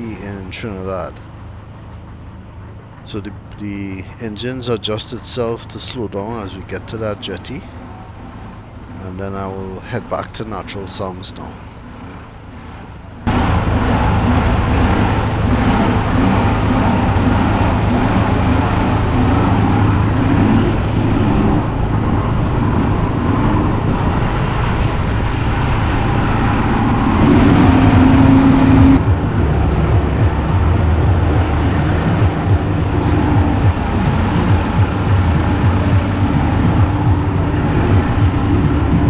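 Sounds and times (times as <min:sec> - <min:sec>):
boat engines droning: 0:00.0 - 0:39.0.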